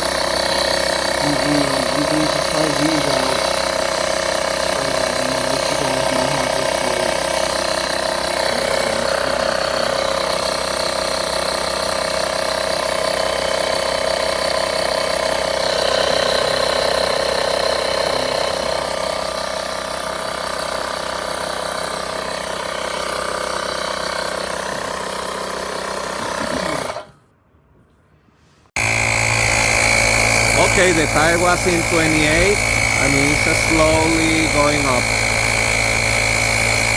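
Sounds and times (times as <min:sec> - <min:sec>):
air compressor running: 0:00.0 - 0:27.2, 0:28.8 - 0:36.9.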